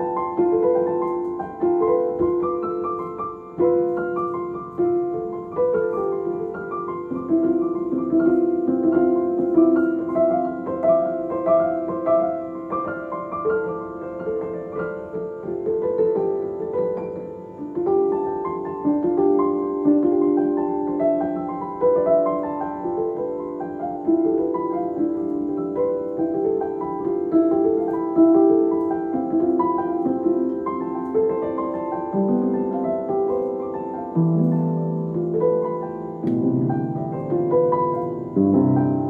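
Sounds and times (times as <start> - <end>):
gentle piano piece: 0.0 - 39.0.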